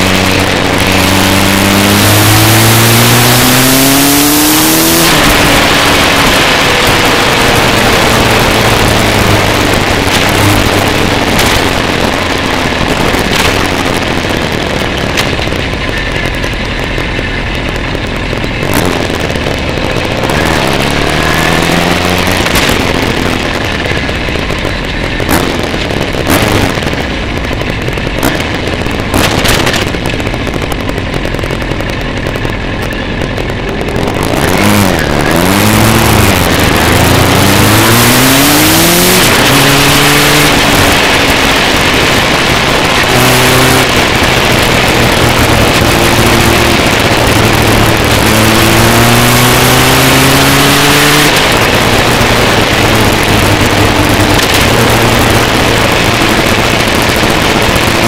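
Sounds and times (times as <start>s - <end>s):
motorcycle engine accelerating: 0.0s - 58.0s
wind noise on microphone: 0.0s - 58.0s.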